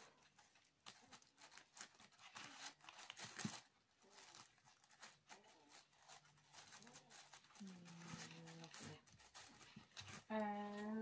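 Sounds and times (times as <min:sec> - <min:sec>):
twine rustling and scratching: 0:00.0 - 0:11.0.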